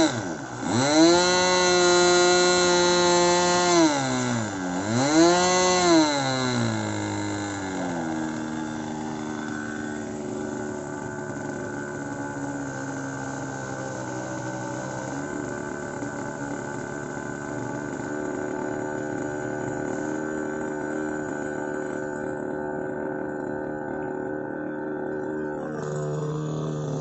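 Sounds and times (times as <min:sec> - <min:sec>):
model airplane engine buzzing: 0:00.0 - 0:27.0.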